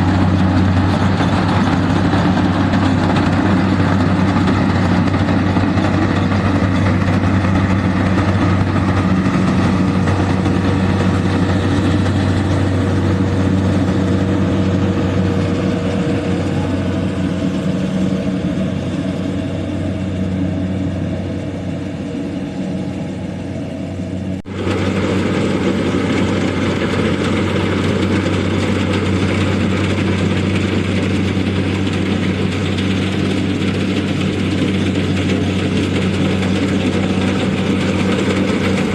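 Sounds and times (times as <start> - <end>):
harvester engine humming: 0.0 - 38.9.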